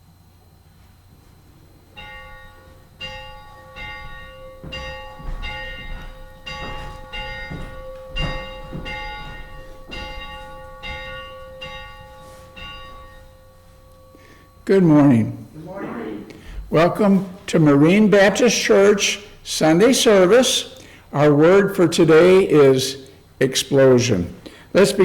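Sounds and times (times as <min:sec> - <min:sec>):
church bell ringing: 0:01.8 - 0:23.2.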